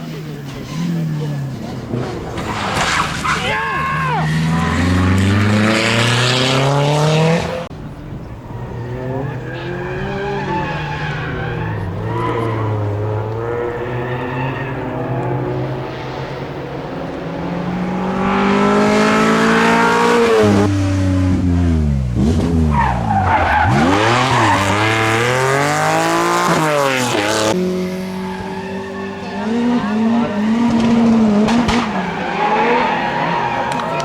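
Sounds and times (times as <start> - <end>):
rally car engine revving: 0.0 - 34.0
tyres skidding: 0.0 - 34.0.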